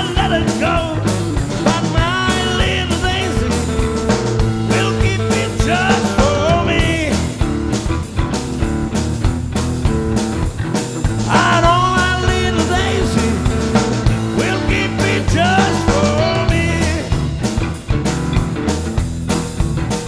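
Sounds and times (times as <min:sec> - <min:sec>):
bending lead guitar line: 0:00.0 - 0:20.0
blues-rock band playing: 0:00.0 - 0:20.0.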